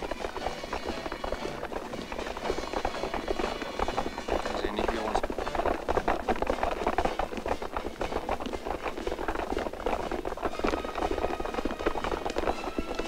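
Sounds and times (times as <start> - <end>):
boots tramping in a group: 0.0 - 13.0.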